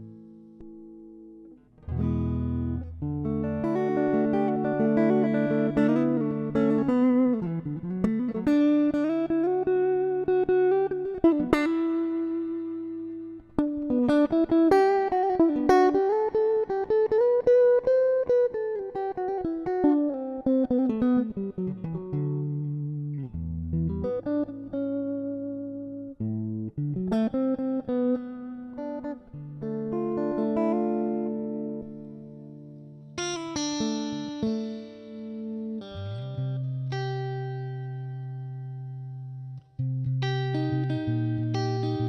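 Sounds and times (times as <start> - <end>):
electric guitar lead line: 0.0 - 42.0.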